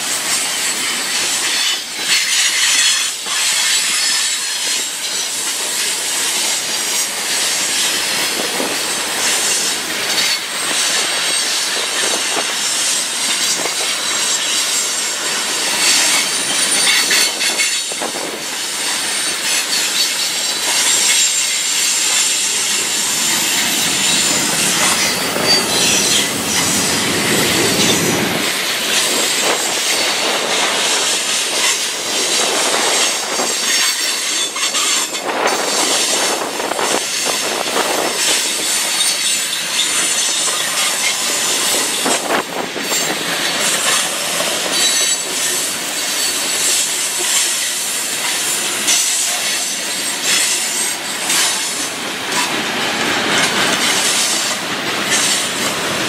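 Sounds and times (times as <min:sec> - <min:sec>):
train cars clattering: 0:00.0 - 0:56.0
train wheels squealing on rails: 0:00.0 - 0:56.0.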